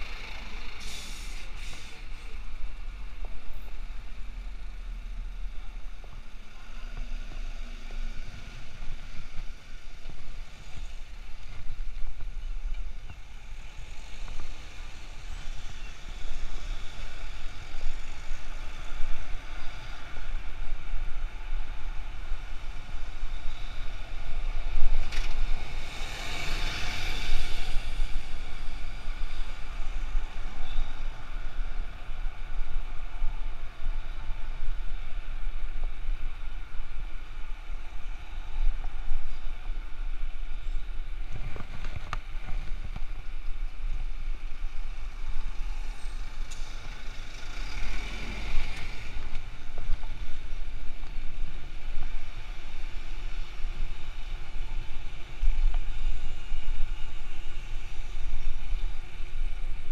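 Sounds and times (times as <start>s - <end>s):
cars and bus passing: 0.0s - 59.9s
wind rumble on microphone: 0.0s - 59.9s.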